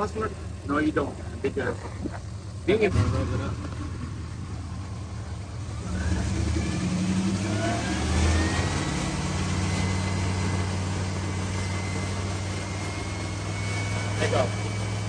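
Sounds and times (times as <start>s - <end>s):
car engine revving: 0.0s - 15.0s
faint whine climbing in pitch: 0.0s - 15.0s.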